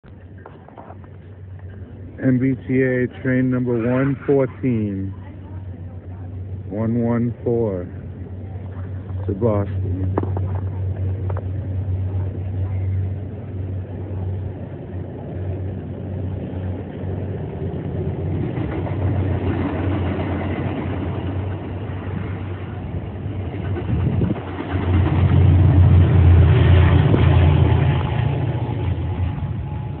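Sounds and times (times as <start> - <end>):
train passing with rumble: 0.1 - 30.0.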